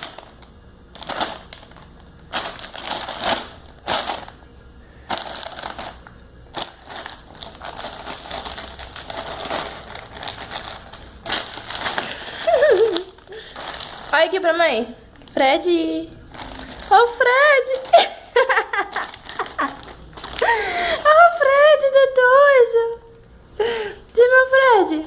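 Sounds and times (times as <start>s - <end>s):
plastic bag crinkling: 0.0s - 21.4s.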